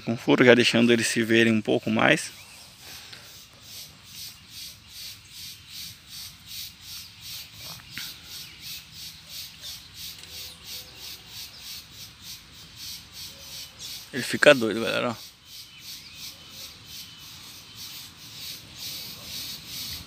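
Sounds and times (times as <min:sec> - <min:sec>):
insect chirping: 0:00.7 - 0:20.0.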